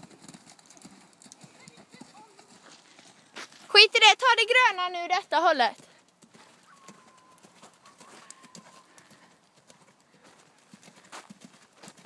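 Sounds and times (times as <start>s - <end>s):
horse hoofbeats on sand: 0.0s - 4.3s, 5.5s - 12.0s.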